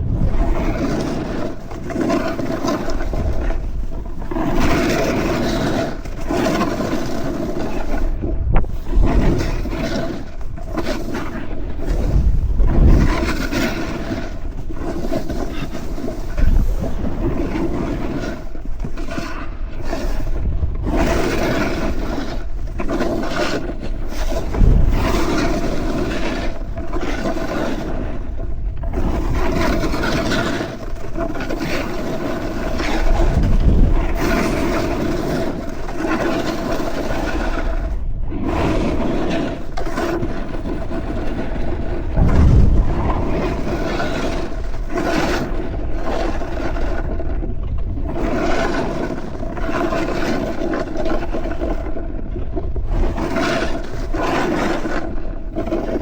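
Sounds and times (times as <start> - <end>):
snowboard carving on snow: 0.0 - 52.1, 52.8 - 56.0.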